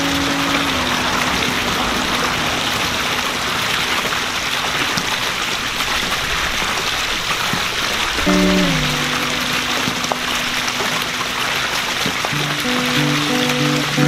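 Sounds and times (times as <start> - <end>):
water jet splashing into pool: 0.0 - 14.0.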